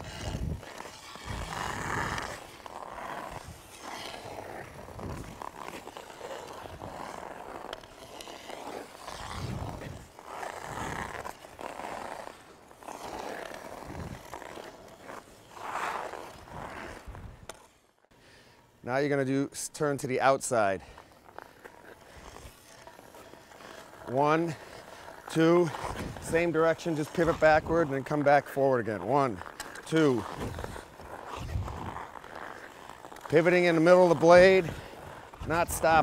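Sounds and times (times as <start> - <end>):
skate blades scraping on ice: 0.0 - 36.0.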